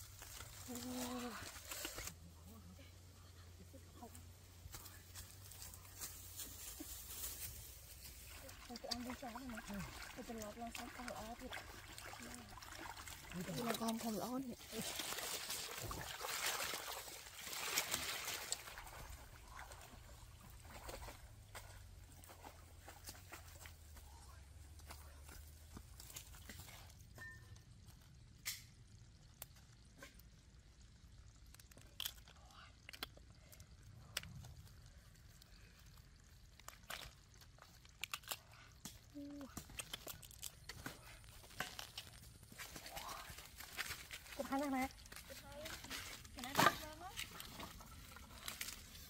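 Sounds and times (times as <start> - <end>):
water trickling and sloshing: 0.0 - 49.0.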